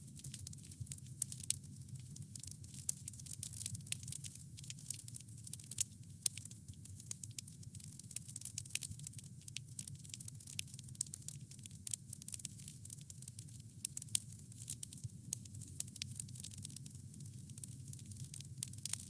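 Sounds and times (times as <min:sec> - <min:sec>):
wood fire crackling: 0:00.0 - 0:07.4, 0:08.0 - 0:19.0.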